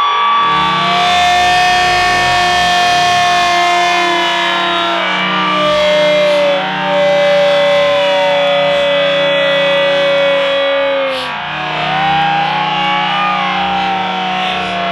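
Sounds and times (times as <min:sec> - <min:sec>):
distorted electric guitar song: 0:00.0 - 0:14.9
siren-like goal horn: 0:00.0 - 0:14.9.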